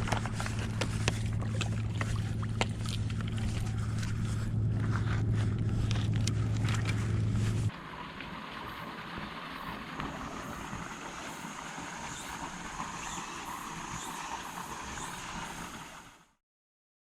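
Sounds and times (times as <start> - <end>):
outdoor background noise: 0.0 - 16.4.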